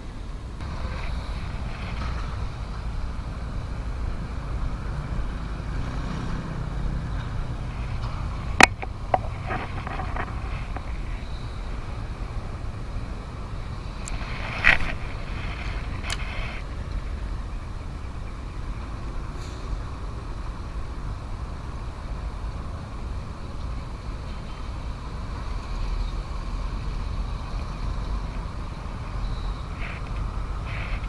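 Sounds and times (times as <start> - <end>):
distant road traffic: 0.0 - 31.0
wind rumble: 0.0 - 31.0.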